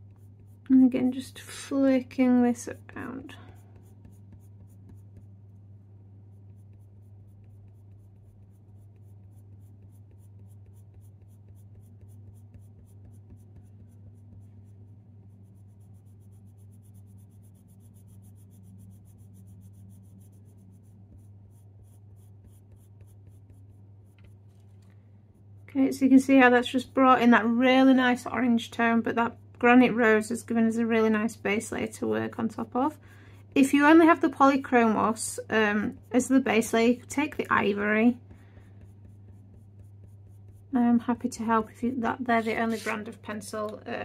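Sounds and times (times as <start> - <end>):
pencil scratching on paper: 0.0 - 24.6, 25.4 - 43.9
steady low hum: 0.0 - 44.0.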